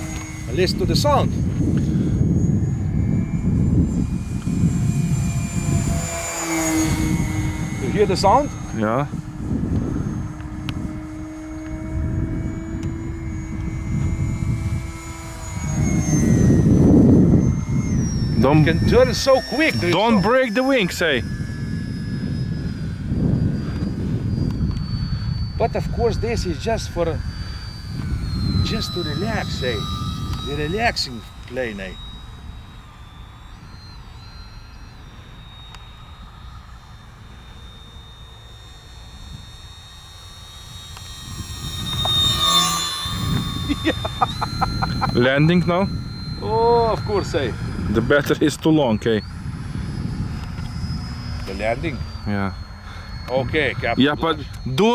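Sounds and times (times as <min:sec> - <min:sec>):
gusty low rumble: 0:00.0 - 0:35.4, 0:39.0 - 0:54.9
model plane motor whining: 0:00.0 - 0:54.9.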